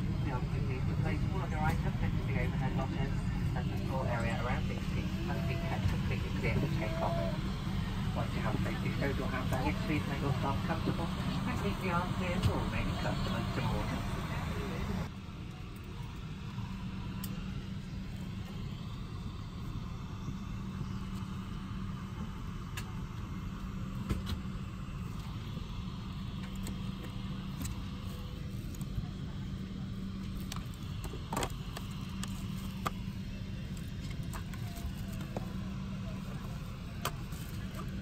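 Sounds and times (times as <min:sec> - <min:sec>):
aircraft cabin rumble and hum: 0:00.0 - 0:38.0.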